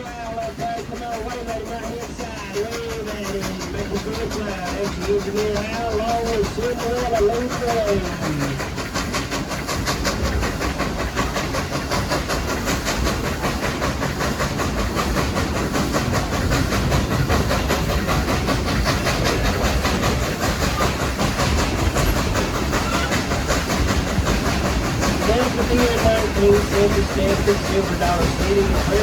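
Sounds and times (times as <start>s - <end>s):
steam train running: 0.0s - 29.0s.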